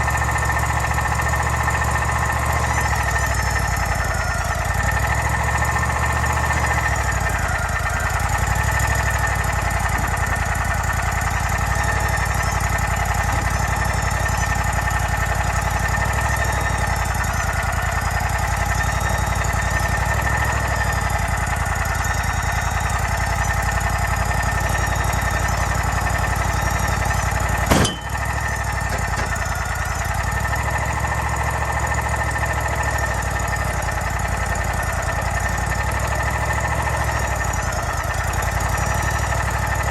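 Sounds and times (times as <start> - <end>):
gasoline engine running: 0.0 - 39.9.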